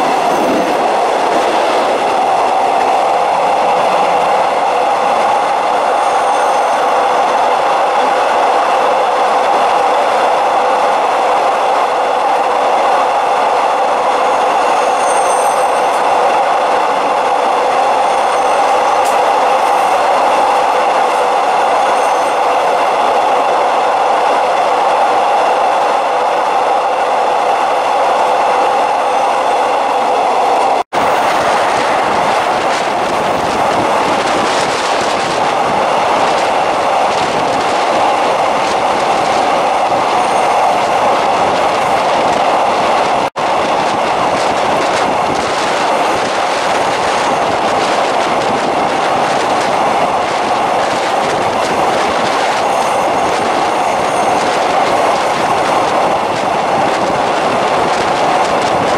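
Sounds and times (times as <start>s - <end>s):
train wheel and rail noise: 0.0s - 58.9s.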